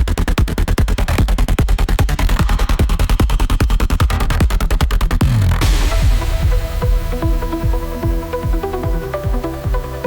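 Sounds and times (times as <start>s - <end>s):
electronic dance music: 0.3s - 10.0s.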